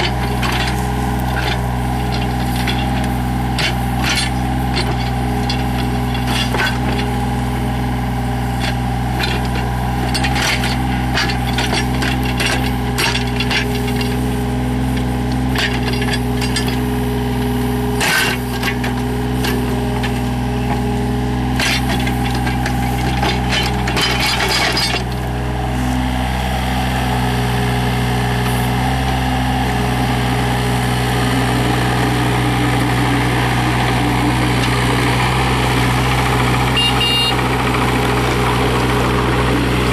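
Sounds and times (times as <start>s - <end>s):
diesel engine running: 0.0s - 39.9s
excavator clanks and knocks: 0.0s - 39.9s.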